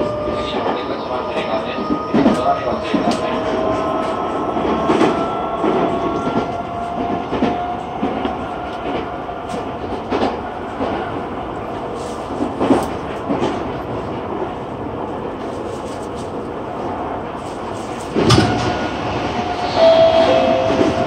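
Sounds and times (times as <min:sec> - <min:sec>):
train interior running noise: 0:00.0 - 0:21.0.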